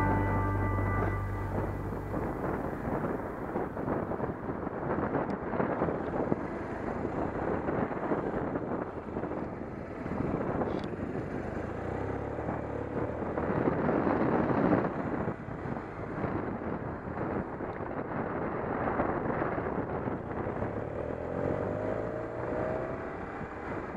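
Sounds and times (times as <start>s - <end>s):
motorcycle engine hum: 0.0s - 23.9s
wind buffeting microphone: 0.0s - 23.9s.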